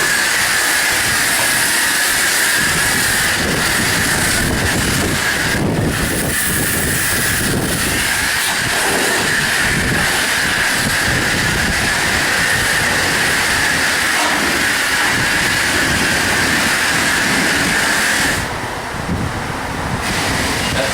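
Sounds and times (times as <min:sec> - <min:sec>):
pressure washer spraying water: 0:00.0 - 0:18.7, 0:19.9 - 0:20.9.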